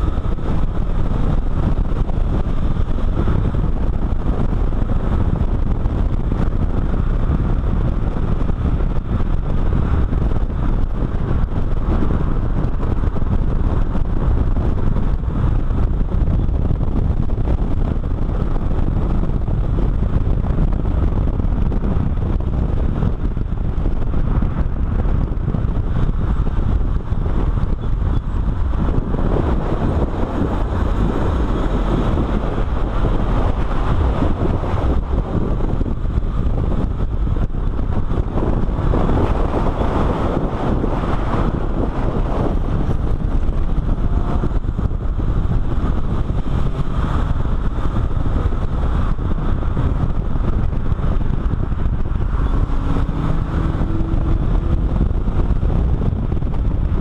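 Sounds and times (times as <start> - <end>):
tyre and engine noise: 0.0 - 57.0
wind buffeting microphone: 0.0 - 57.0.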